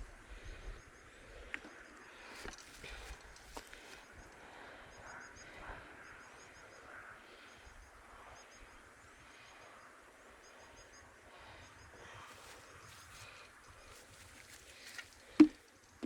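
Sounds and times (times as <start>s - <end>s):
quiet forest ambience: 0.0s - 16.0s.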